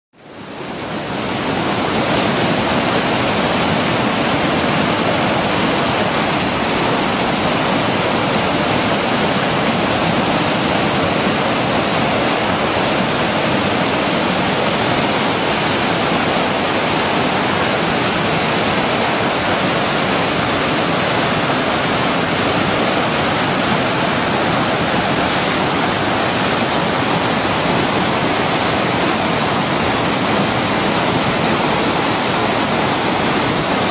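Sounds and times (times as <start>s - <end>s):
river rushing whitewater: 0.2s - 33.9s.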